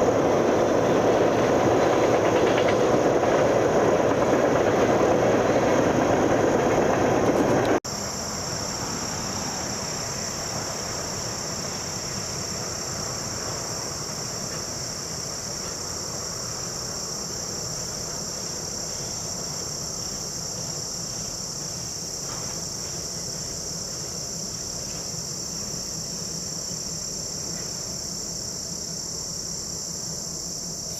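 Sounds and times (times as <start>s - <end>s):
insects chirping: 0.0s - 30.9s
passing train rumble: 0.0s - 30.9s.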